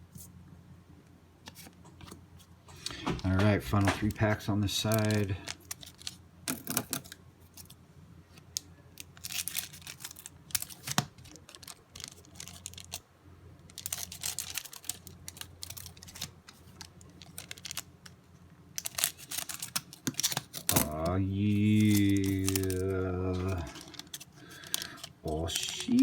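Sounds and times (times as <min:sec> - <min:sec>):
card pack wrappers crinkling: 0:02.7 - 0:07.8, 0:08.5 - 0:13.0, 0:13.6 - 0:26.0.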